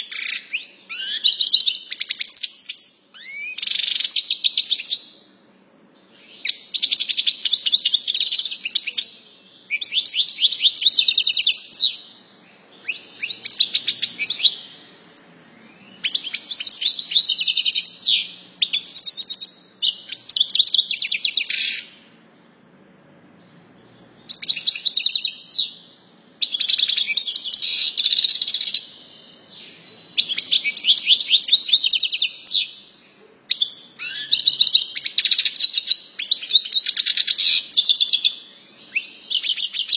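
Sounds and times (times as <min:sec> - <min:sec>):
bird twittering and trilling: 0:00.0 - 0:05.3, 0:06.1 - 0:22.2, 0:23.4 - 0:39.9.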